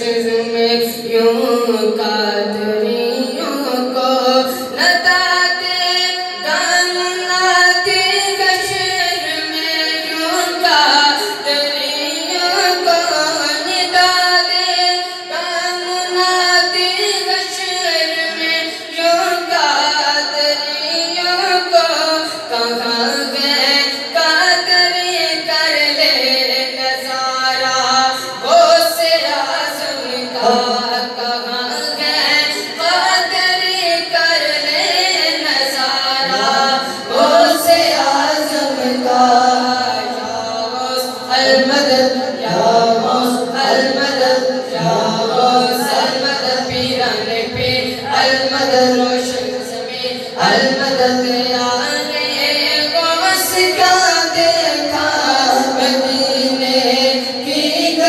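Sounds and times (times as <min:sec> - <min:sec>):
man singing devotional song: 0:00.0 - 0:58.0
sung vocal backing: 0:00.0 - 0:58.0.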